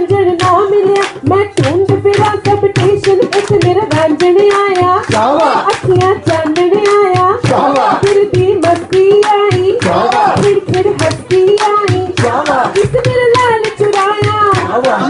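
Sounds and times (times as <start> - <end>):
women singing into a microphone: 0.0 - 15.0
hand-clapping: 0.3 - 15.0.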